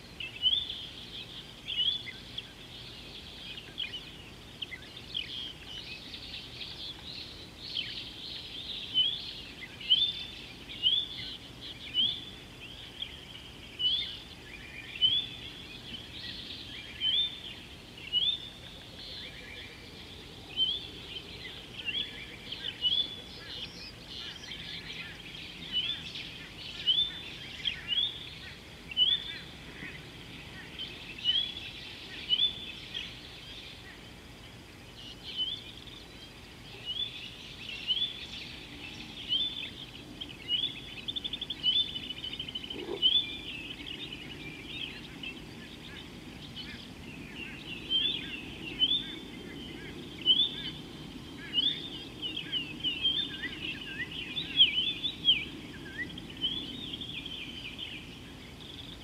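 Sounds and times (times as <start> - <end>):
faint birds chirping: 0.0 - 59.0
steady outdoor background: 0.0 - 59.0.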